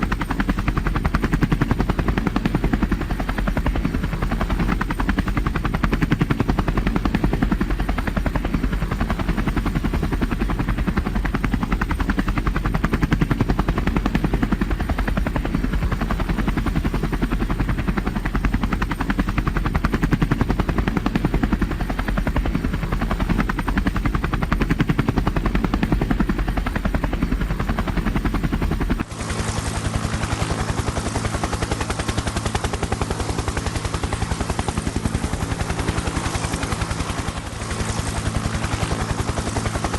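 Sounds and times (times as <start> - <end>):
helicopter engine drone: 0.0 - 39.9
helicopter rotor beating: 0.0 - 39.9.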